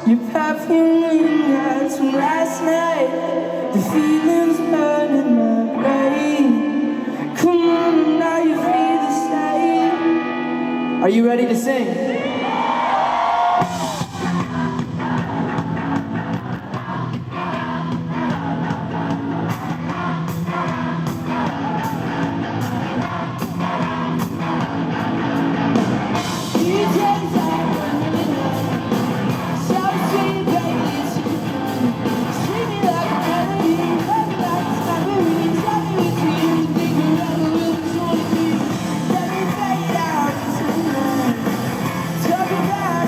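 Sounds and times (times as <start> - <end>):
person singing: 0.0 - 12.0, 13.6 - 43.0
drums: 0.0 - 43.0
electric guitar: 0.0 - 43.0.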